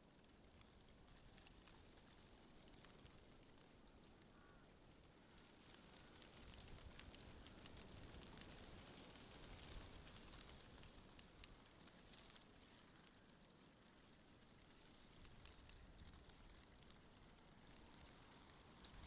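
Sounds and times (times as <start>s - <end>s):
wind rustling tree leaves: 0.1s - 19.0s.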